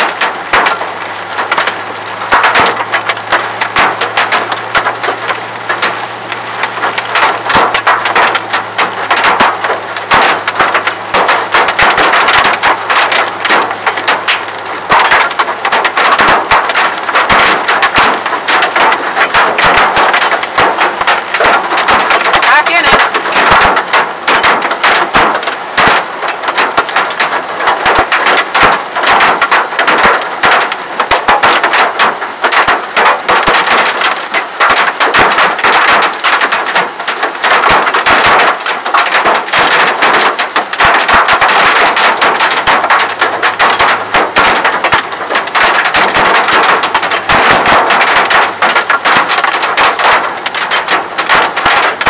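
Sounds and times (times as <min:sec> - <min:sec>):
hail pelting car roof: 0:00.0 - 0:52.0.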